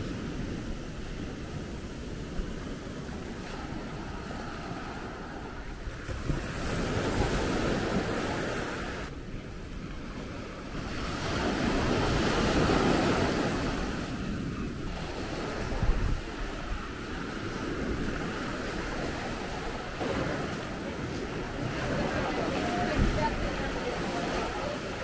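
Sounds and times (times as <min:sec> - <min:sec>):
sea waves washing on beach: 0:00.0 - 0:25.0
wind buffeting microphone: 0:00.0 - 0:25.0.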